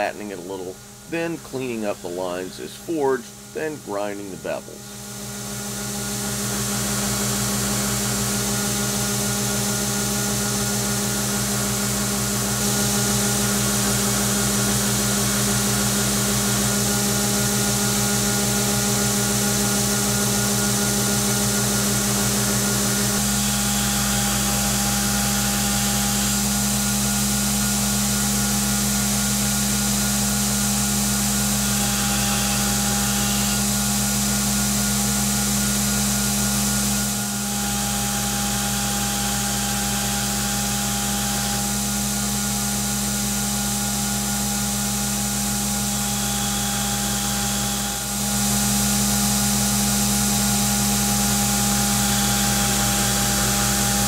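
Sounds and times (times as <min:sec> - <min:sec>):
belt grinder motor humming: 0:00.0 - 0:54.0.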